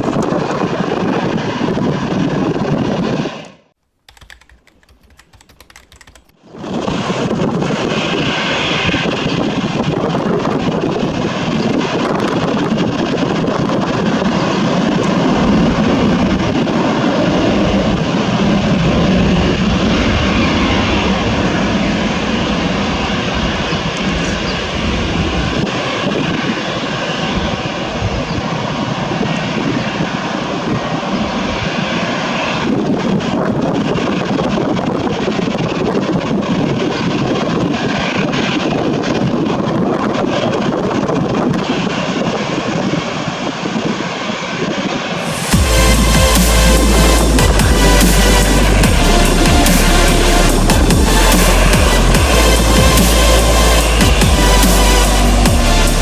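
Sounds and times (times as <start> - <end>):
jet engines taking off: 0.0 - 3.7, 6.4 - 56.0.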